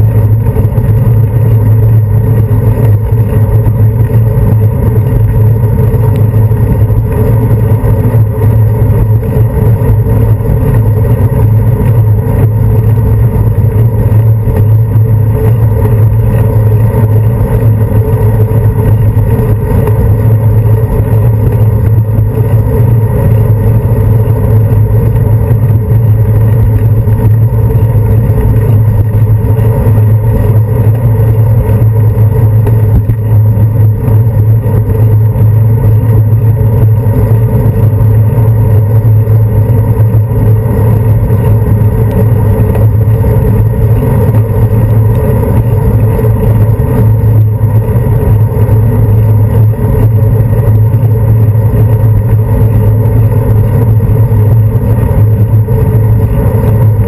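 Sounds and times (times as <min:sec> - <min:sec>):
road vibration rumble: 0:00.0 - 0:57.0
wind noise on camera: 0:00.0 - 0:57.0.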